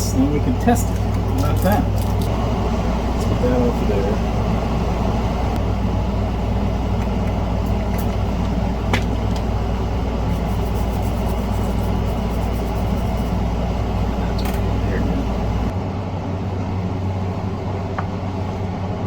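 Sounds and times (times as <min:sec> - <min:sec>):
fan or motor humming: 0:00.0 - 0:19.0.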